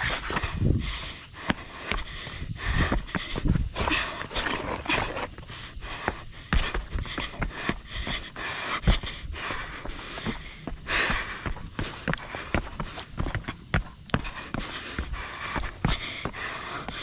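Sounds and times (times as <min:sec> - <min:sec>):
runner panting hard: 0:00.0 - 0:17.0.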